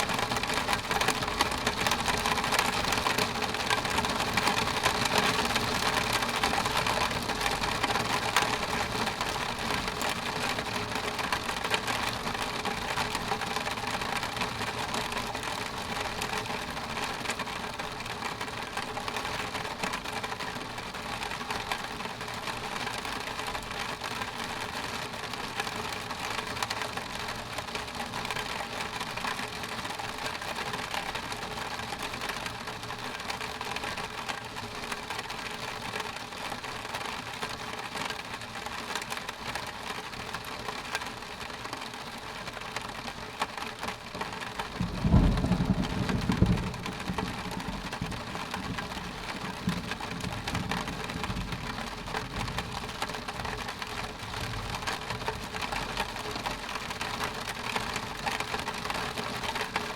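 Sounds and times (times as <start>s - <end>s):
rain on a window pane: 0.0s - 59.9s.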